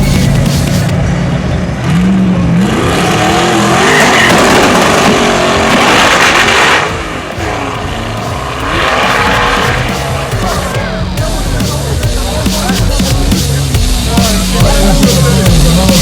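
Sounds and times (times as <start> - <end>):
loud rushing noise: 0.0 - 16.0
race car engine revving: 0.0 - 16.0.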